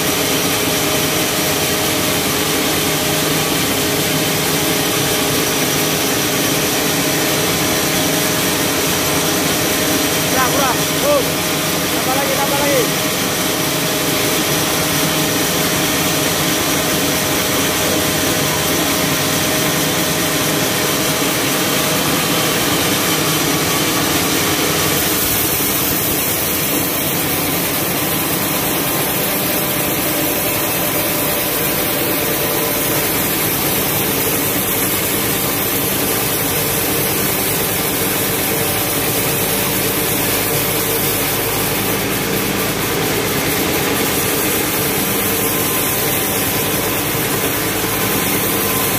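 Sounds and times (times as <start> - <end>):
band sawmill running: 0.0 - 48.9.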